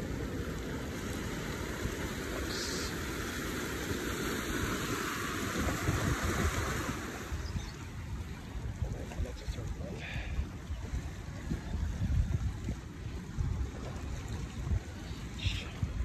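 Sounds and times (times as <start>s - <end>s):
seawater washing between rocks: 0.0s - 16.0s
wind buffeting microphone: 0.0s - 16.0s.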